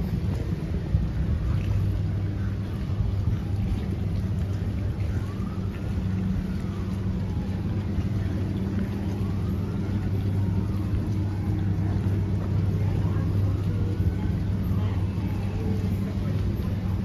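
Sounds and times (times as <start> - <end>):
faint whines rising and falling: 0.0 - 17.0
low mechanical hum: 0.0 - 17.0.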